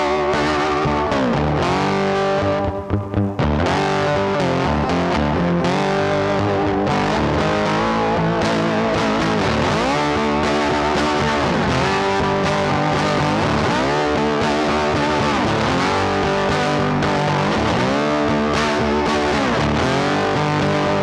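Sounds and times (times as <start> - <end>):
rock music with distorted guitar: 0.0 - 21.0.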